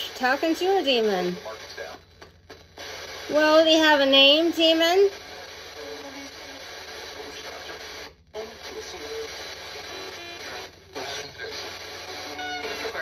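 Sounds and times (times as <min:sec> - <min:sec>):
broken tones and voice-like sound: 0:00.0 - 0:13.0
choppy radio static: 0:00.0 - 0:13.0.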